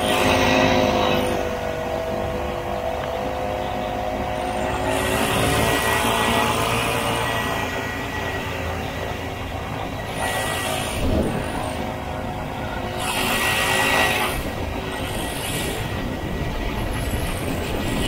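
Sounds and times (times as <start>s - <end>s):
two-stroke snowmobile engine: 0.0s - 18.0s
wind rushing past a moving snowmobile: 0.0s - 18.0s.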